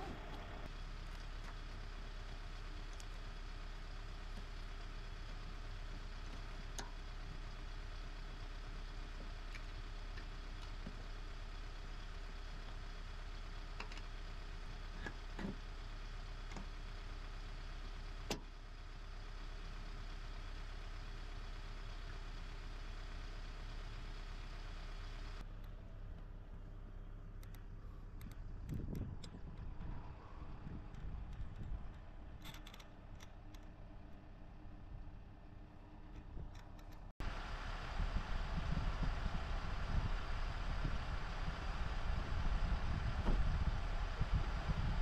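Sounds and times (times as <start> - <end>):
engine idling hum: 0.0 - 45.0.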